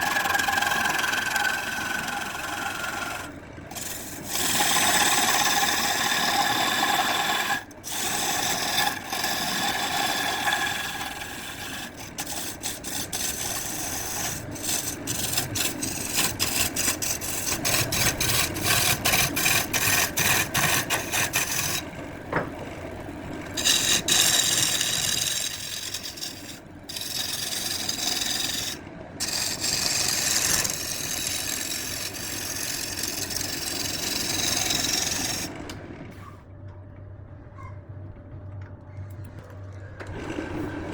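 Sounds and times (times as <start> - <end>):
tool rasping on spinning wood: 0.0 - 22.0, 23.5 - 35.7.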